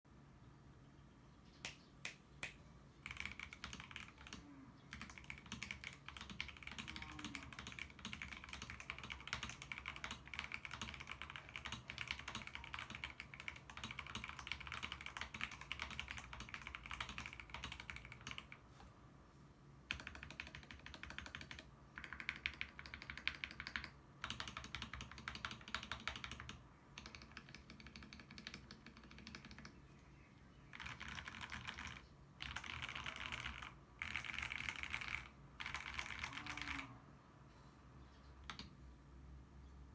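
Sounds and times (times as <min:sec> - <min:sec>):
mechanical keyboard typing: 0:03.0 - 0:18.6, 0:19.9 - 0:29.8, 0:30.7 - 0:36.9, 0:38.4 - 0:38.7.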